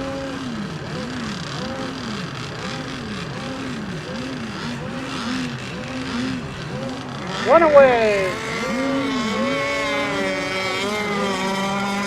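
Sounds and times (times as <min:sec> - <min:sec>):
model boat engines revving: 0:00.0 - 0:12.0.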